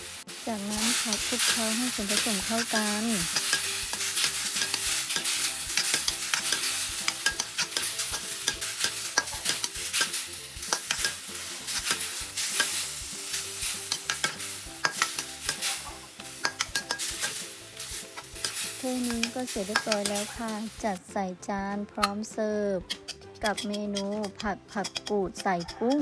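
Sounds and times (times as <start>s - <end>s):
oil sizzling: 0.0s - 21.0s, 23.0s - 26.0s
metal spatula scraping a wok: 0.4s - 21.0s, 22.8s - 26.0s.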